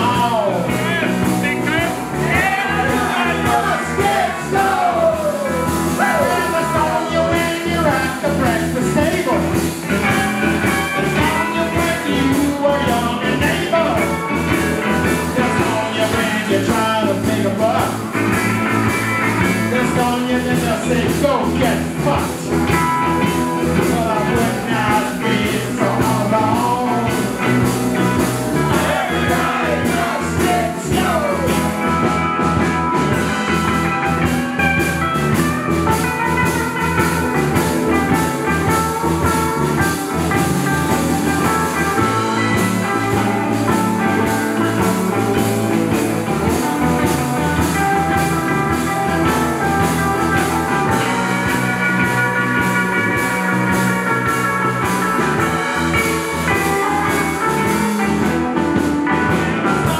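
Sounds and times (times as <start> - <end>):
guitar lead line bending: 0.0 - 59.9
live rock band playing: 0.0 - 59.9.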